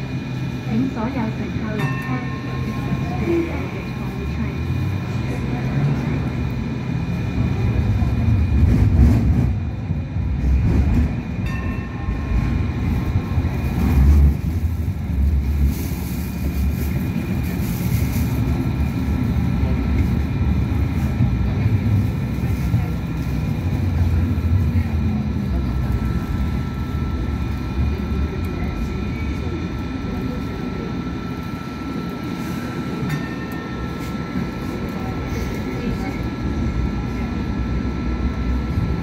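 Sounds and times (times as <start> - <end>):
low rumble of tram: 0.0 - 39.0.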